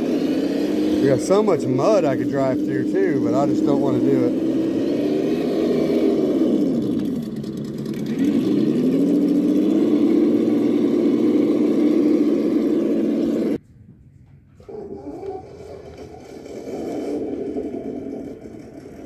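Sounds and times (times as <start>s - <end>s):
simulated engine revving: 0.0s - 13.6s, 15.1s - 19.0s.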